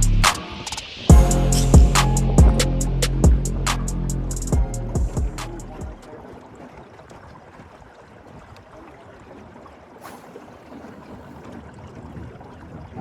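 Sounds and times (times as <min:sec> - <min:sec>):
moving water or air: 0:00.0 - 0:13.0.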